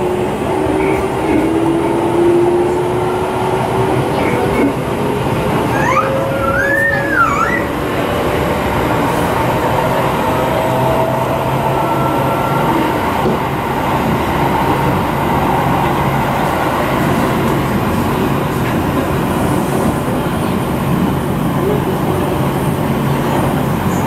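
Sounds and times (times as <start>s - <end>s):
faint train whine: 0.0s - 24.0s
train wheels rumbling on rail: 0.0s - 24.0s.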